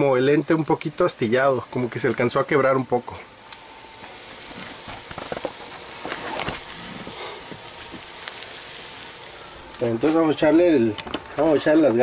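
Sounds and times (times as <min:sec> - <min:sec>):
fish sizzling in frying pan: 0:00.0 - 0:10.8.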